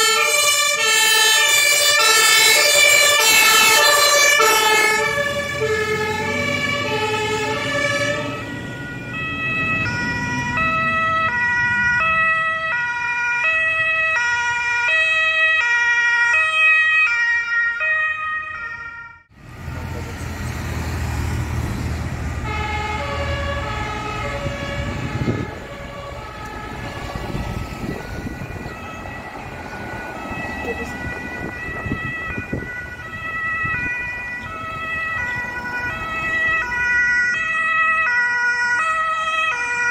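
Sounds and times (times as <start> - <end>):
heavy vehicle engine passing: 0.0 - 14.4, 19.3 - 38.6
road noise: 0.0 - 39.9
two-tone emergency sirens: 0.0 - 39.9.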